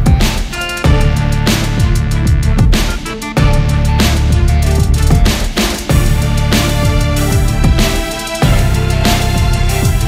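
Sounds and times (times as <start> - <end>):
electronic film score: 0.0 - 10.0.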